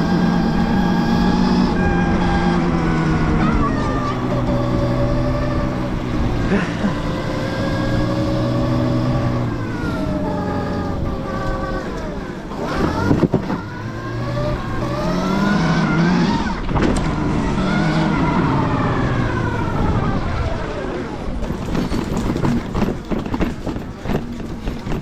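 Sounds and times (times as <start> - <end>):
electric dirt bike motor whine: 0.0 - 25.0.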